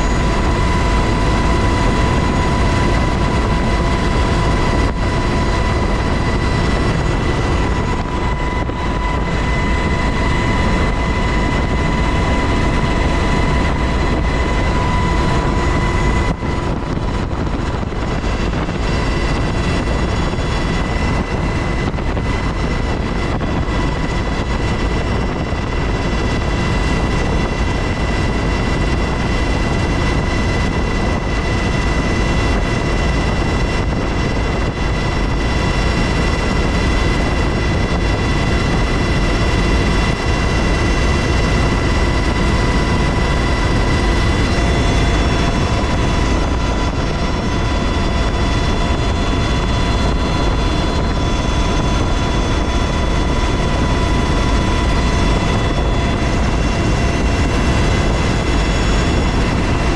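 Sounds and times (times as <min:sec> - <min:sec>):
helicopter engines and rotors din: 0:00.0 - 0:59.9
high whine: 0:00.0 - 0:59.9.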